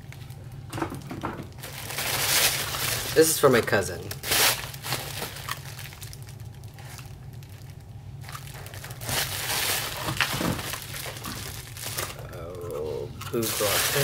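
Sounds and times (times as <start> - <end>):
foil liner crinkling: 1.5 - 12.2, 13.2 - 14.0.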